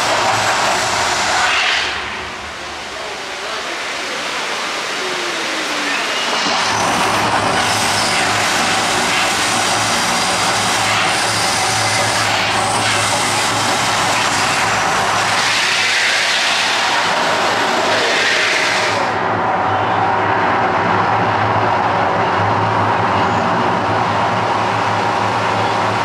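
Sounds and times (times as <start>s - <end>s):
flame jets and fountains roaring: 0.0s - 26.0s.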